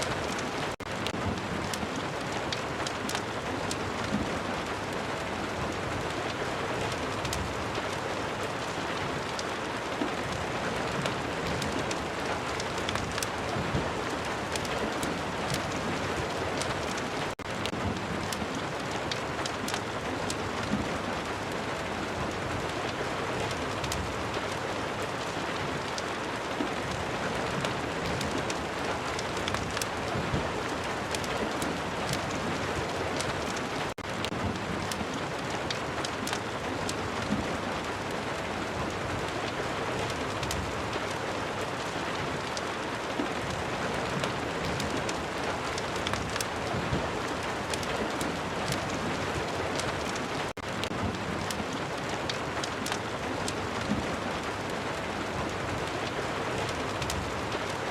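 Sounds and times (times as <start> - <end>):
steady rain falling: 0.0 - 57.9
wood fire crackling: 0.0 - 57.9.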